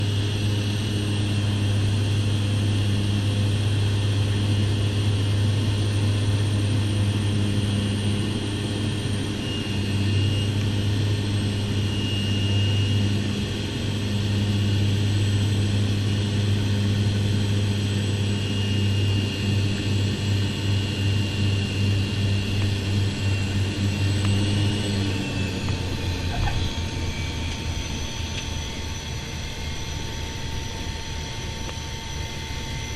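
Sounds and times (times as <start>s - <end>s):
airliner engine hum: 0.0s - 32.9s
high engine whine: 0.0s - 32.9s.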